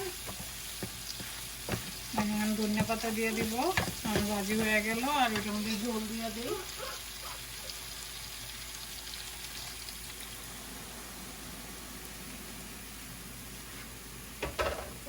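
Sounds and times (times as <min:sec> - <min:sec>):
pot boiling with soft hiss: 0:00.0 - 0:15.0.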